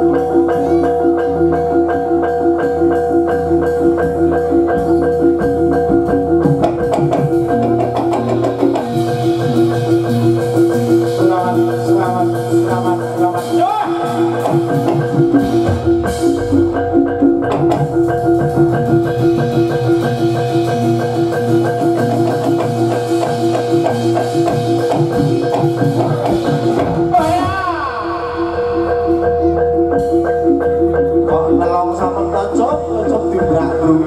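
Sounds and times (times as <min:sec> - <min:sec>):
metallophones striking pattern: 0:00.0 - 0:34.0
percussion: 0:00.0 - 0:34.0.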